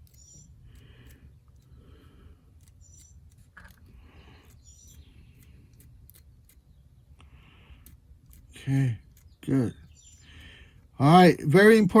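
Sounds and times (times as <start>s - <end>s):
faint irregular ticking: 0.0s - 12.0s.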